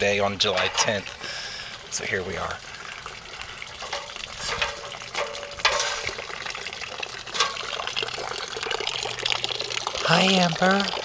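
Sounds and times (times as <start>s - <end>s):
water splashing from hose: 0.0s - 11.0s.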